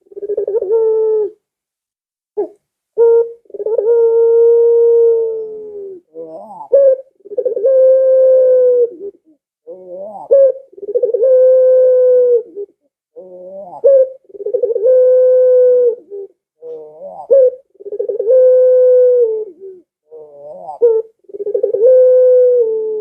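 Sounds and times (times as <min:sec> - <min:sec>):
dove cooing: 0:00.0 - 0:01.4, 0:02.4 - 0:23.0.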